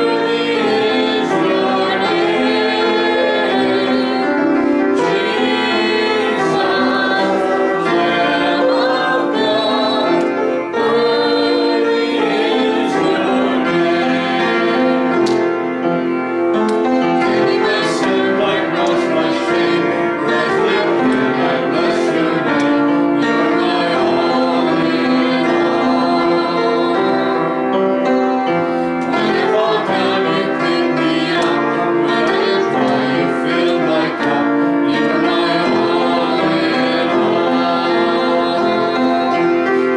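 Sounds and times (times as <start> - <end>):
people singing worship song: 0.0 - 15.9, 16.7 - 39.9
instrumental accompaniment: 0.0 - 39.9.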